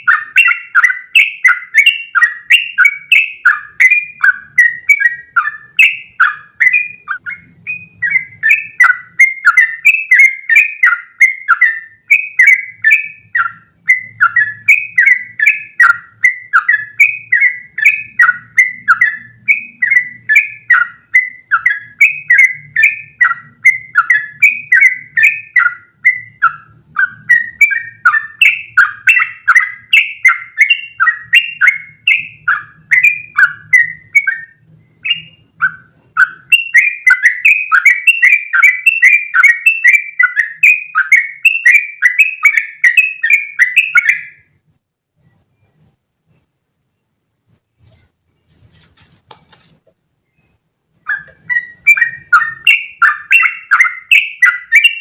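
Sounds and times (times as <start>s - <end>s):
bulbul singing whistled phrases: 0.0s - 44.6s, 50.2s - 55.0s.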